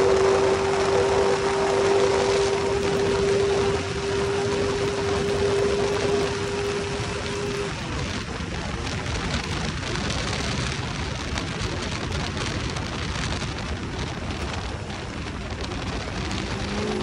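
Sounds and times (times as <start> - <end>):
wind and tyre noise: 0.0 - 17.0.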